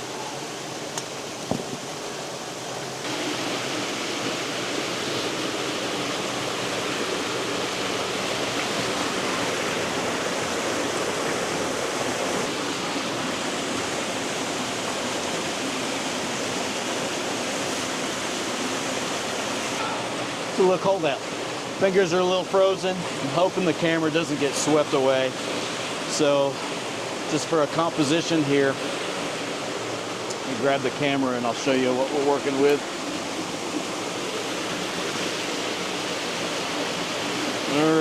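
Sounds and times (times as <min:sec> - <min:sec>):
water rushing over rocks: 0:00.0 - 0:38.0.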